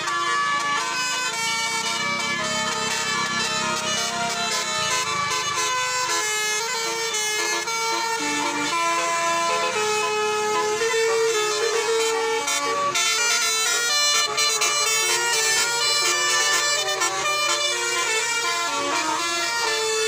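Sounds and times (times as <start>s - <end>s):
bus horn playing a tune: 0.0s - 20.0s.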